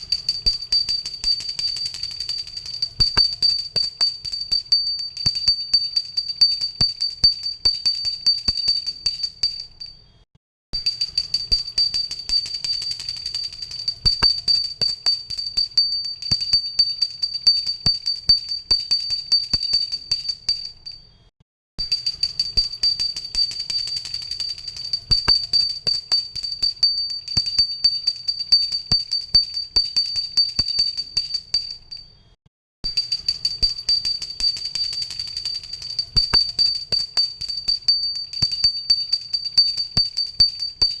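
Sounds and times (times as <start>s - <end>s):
hand bell ringing: 0.0s - 10.0s, 10.8s - 21.0s, 21.8s - 32.1s, 32.9s - 41.0s.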